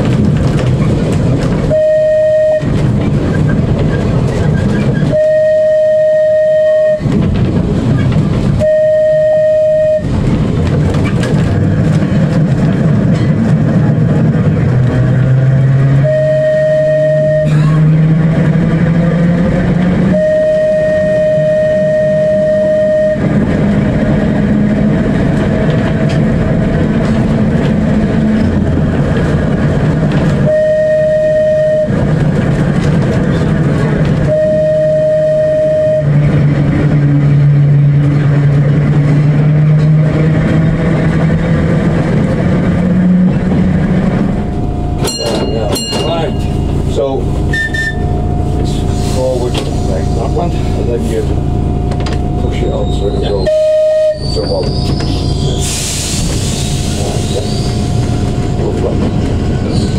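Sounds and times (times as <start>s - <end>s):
electric tram humming: 0.0s - 59.9s
tram horn blasts: 1.2s - 3.8s, 4.8s - 7.8s, 8.4s - 10.7s, 14.8s - 59.9s.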